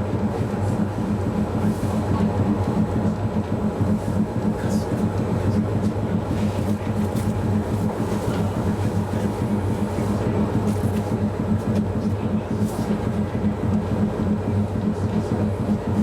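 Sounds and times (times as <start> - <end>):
tram motors and wheels humming: 0.0 - 16.0.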